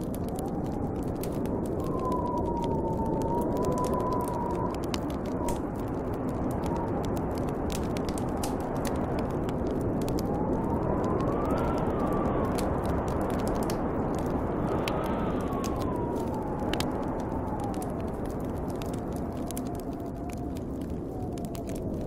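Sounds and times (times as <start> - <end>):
wind howling: 0.0 - 22.0
wood fire crackling: 0.0 - 22.0.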